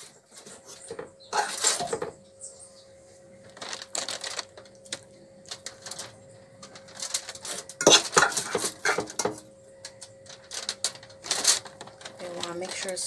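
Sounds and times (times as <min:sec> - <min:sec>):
utensil clinking and scraping: 0:00.0 - 0:02.2, 0:03.5 - 0:13.0.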